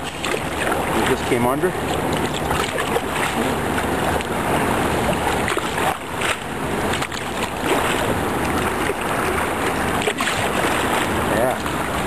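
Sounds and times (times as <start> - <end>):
kayak paddle splashing: 0.0 - 12.0
river water rushing and splashing: 0.0 - 12.0.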